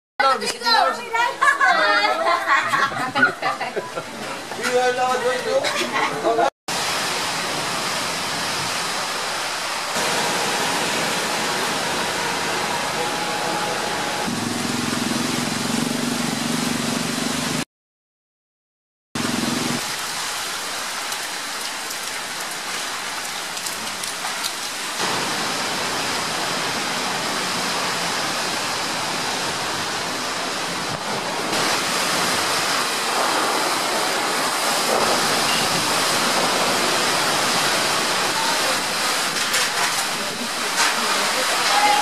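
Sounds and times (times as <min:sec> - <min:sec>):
wind: 0:00.2 - 0:17.6, 0:19.2 - 0:42.0
heavy rain: 0:06.7 - 0:17.6, 0:19.2 - 0:42.0.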